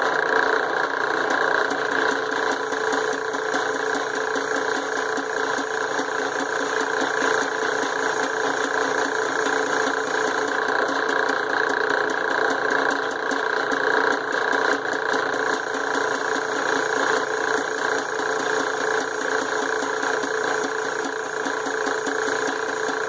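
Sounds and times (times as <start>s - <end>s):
grinding on steel: 0.0s - 23.0s
power tool motor whining: 0.0s - 23.0s.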